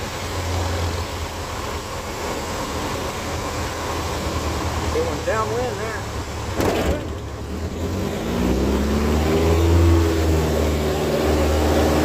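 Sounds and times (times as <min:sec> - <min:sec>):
aircraft engine and propeller revving: 0:00.0 - 0:12.0.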